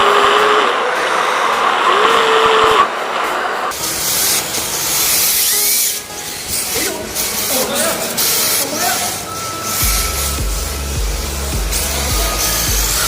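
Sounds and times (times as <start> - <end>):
rc car hiss: 0.0 - 13.0
rc car motor whine: 0.0 - 13.0.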